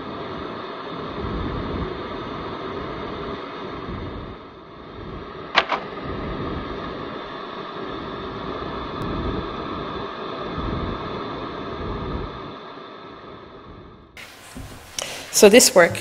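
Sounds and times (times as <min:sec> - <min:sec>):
room noise hum: 0:00.0 - 0:16.0.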